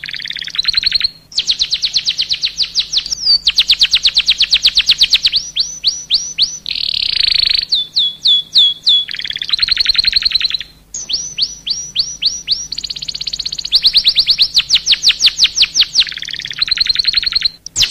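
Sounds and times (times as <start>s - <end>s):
canary singing trills: 0.0s - 17.9s.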